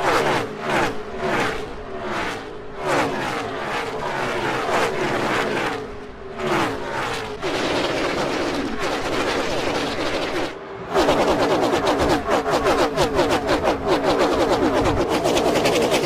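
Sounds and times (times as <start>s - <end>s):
continuous engine note: 0.0s - 16.0s
race cars passing at speed: 0.0s - 16.0s.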